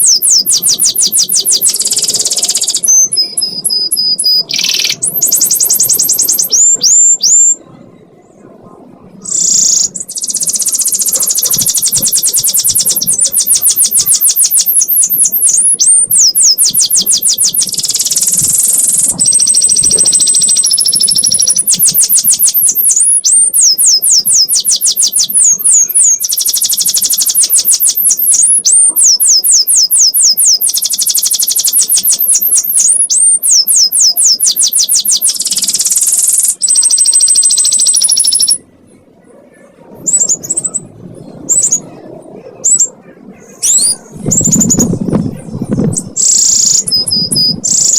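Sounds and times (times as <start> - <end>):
canary singing trills: 0.0 - 8.3, 9.2 - 47.9.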